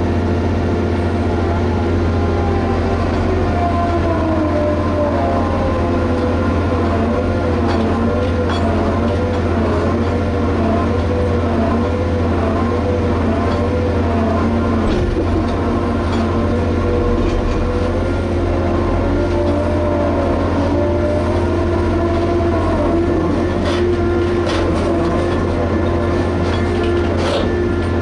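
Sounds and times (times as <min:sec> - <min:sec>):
excavator engine whining: 0:00.0 - 0:28.0.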